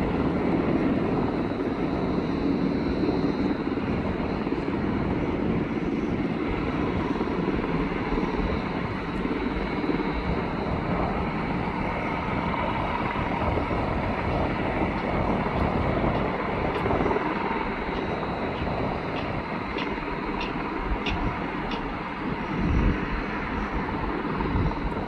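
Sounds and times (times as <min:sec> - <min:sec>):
helicopter engines and rotors: 0:00.0 - 0:25.0.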